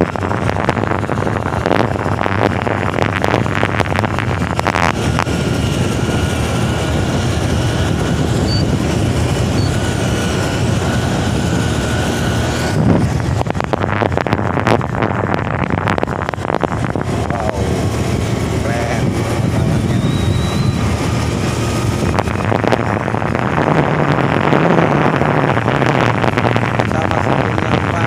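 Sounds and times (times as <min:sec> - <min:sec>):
vehicle road noise: 0:00.0 - 0:28.0
wind on microphone: 0:00.0 - 0:28.0.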